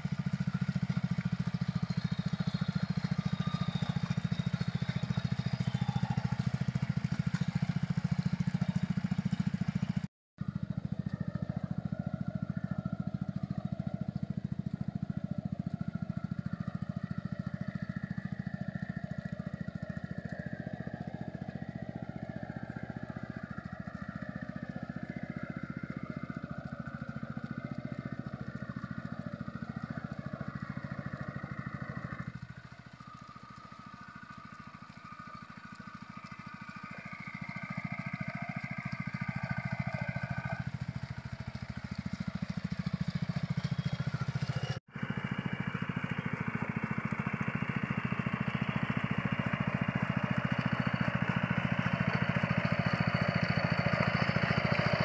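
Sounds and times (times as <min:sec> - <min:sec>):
small tractor engine running: 0:00.0 - 0:55.0.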